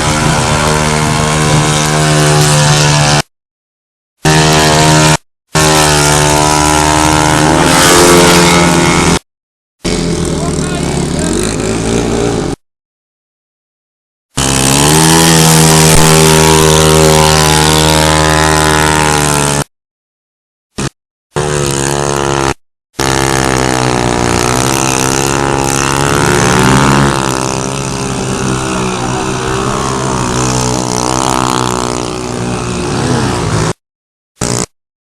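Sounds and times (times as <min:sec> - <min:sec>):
motorcycle engine revving: 0:00.0 - 0:03.3, 0:04.2 - 0:09.2, 0:09.8 - 0:12.6, 0:14.3 - 0:19.7, 0:20.8 - 0:33.8, 0:34.4 - 0:34.8.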